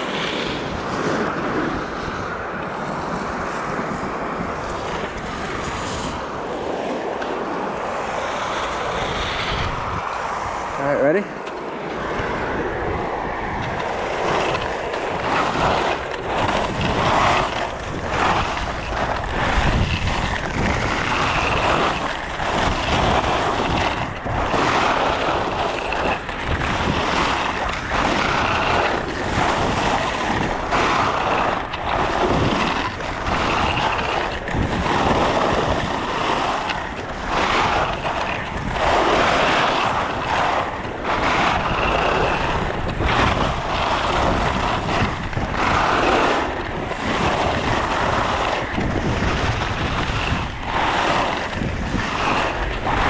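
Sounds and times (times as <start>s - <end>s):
skis scraping on snow: 0.0s - 53.0s
wind rushing over microphone: 0.0s - 53.0s.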